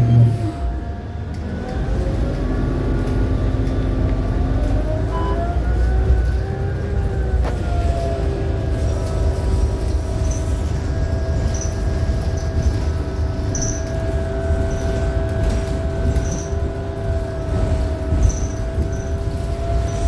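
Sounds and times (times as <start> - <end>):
bus interior rumble: 0.0 - 20.0.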